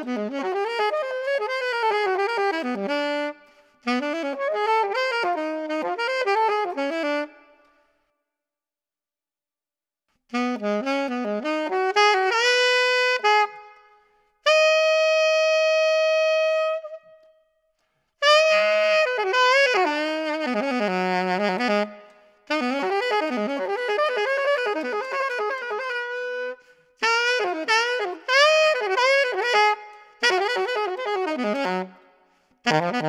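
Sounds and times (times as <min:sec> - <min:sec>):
alto saxophone improvising: 0:00.0 - 0:07.6, 0:10.3 - 0:17.3, 0:18.2 - 0:33.0.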